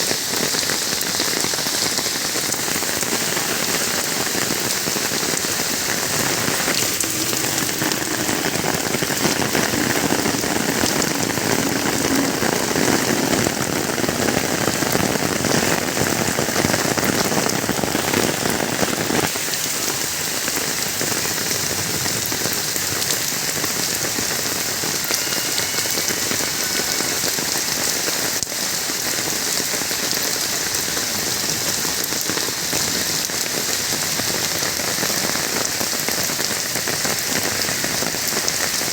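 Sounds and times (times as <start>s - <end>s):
rain pattering on surfaces: 0.0s - 38.9s.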